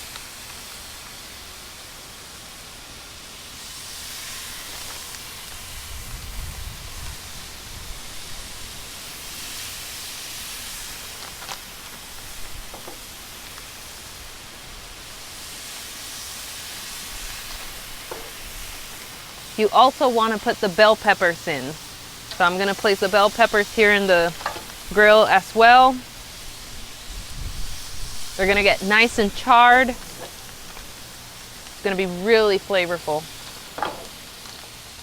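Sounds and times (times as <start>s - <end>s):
chicken sizzling on grill: 0.0s - 35.0s.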